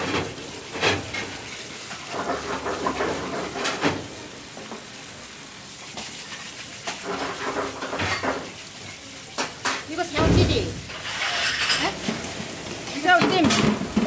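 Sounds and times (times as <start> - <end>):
water spraying from sink sprayer: 0.0 - 14.0.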